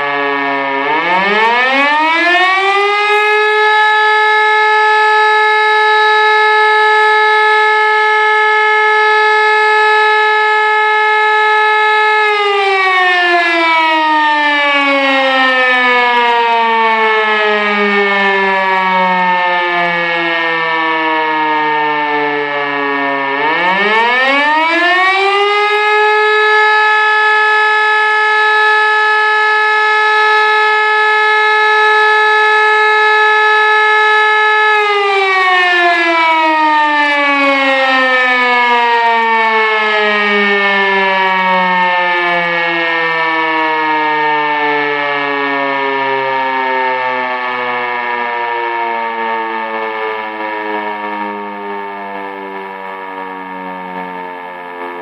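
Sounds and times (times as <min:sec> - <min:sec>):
fire siren wailing: 0:00.0 - 0:55.0.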